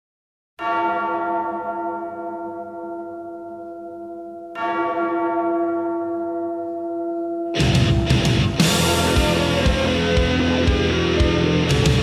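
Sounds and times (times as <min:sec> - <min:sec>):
large bell tolling: 0:00.6 - 0:12.0.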